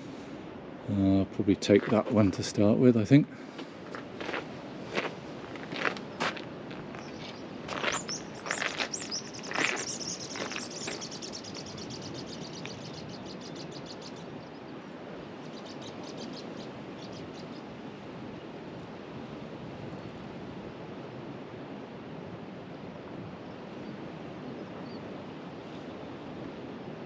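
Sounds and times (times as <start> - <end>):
sea on a shore: 0.0 - 27.0
wind: 0.0 - 27.0.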